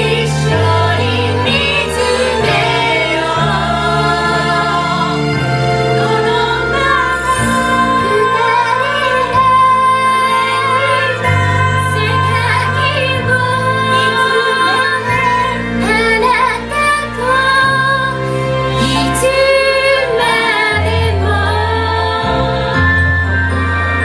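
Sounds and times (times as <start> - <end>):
women singing together: 0.0 - 18.2, 18.8 - 23.5
recorded backing music: 0.0 - 24.0.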